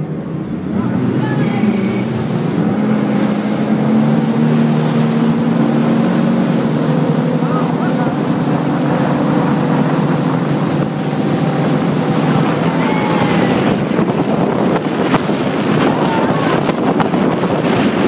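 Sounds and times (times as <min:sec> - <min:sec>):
boat engine drone: 0:00.0 - 0:18.0
water rushing and spray: 0:00.0 - 0:18.0
wind buffeting microphone: 0:00.0 - 0:18.0.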